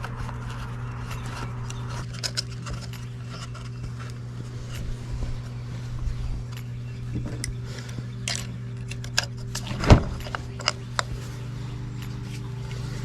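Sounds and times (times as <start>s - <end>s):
hand tools clicking and clinking: 0.0s - 5.6s, 6.5s - 13.0s
steady low hum: 0.0s - 13.0s.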